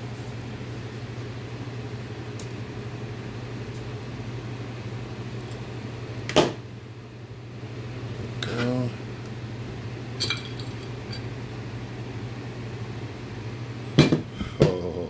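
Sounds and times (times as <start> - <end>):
low hum of fan: 0.0 - 15.0.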